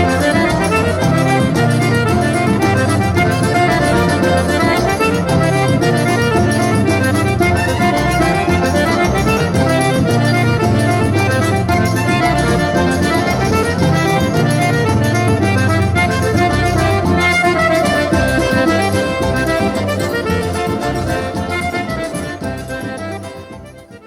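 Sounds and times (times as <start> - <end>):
accordion folk music: 0.0 - 24.0.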